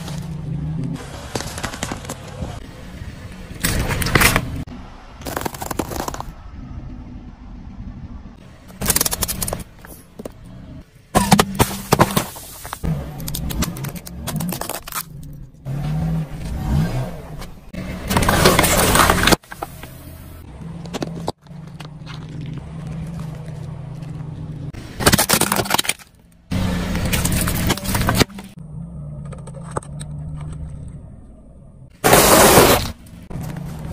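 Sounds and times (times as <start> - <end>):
objects crackling and crunching: 0.0 - 2.6, 3.6 - 6.4, 8.4 - 10.5, 11.2 - 15.6, 18.1 - 31.3, 31.9 - 33.9.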